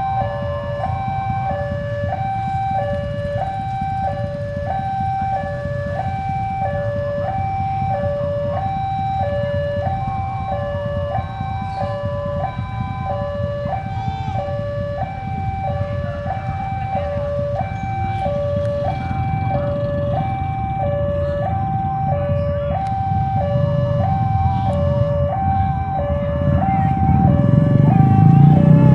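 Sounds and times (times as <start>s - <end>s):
two-tone crossing alarm: 0.0s - 28.9s.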